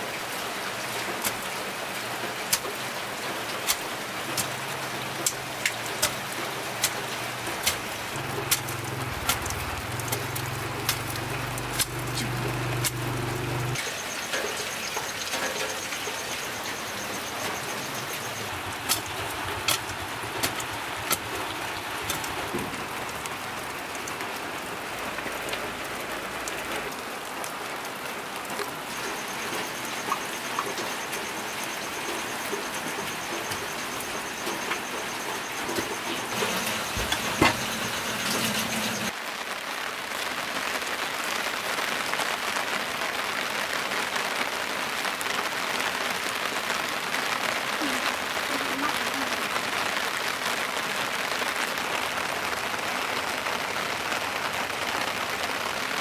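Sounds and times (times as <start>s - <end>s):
rain on leaves and ground: 0.0s - 56.0s.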